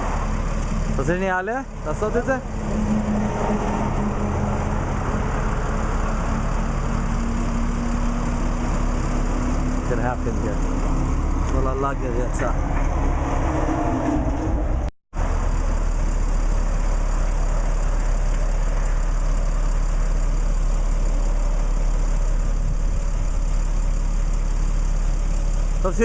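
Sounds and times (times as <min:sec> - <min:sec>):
vehicle engine idling: 0:00.0 - 0:13.2, 0:15.2 - 0:26.0.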